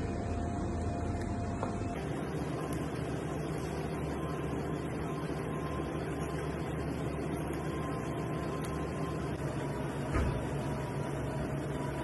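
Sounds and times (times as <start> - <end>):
kitchen machinery humming: 0.0 - 12.0.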